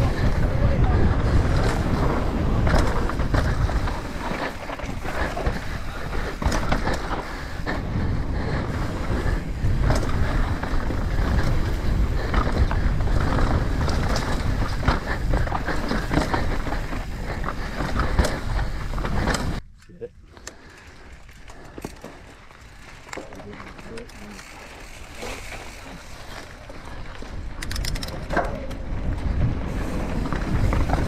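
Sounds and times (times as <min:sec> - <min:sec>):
tyres rumbling on dirt: 0:00.0 - 0:19.6, 0:20.9 - 0:31.0
wind buffeting microphone: 0:00.0 - 0:23.1, 0:24.4 - 0:31.0
bike clicks and rattles: 0:00.0 - 0:31.0.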